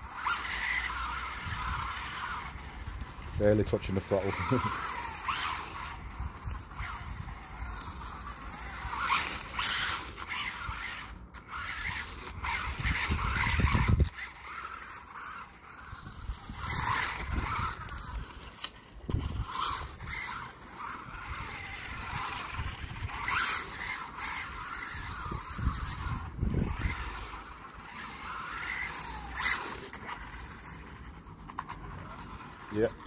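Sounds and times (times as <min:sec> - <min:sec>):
toy car motor whirring: 0:00.0 - 0:33.0.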